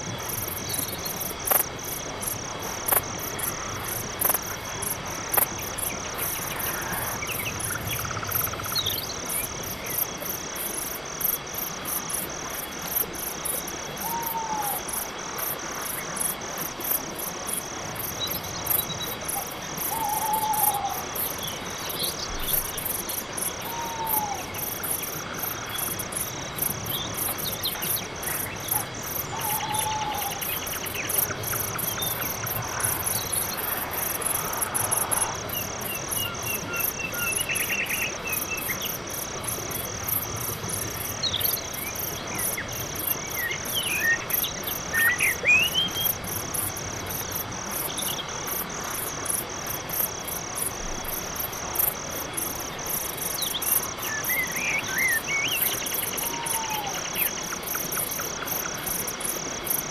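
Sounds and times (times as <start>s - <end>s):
crickets chirping chorus: 0.0s - 59.9s.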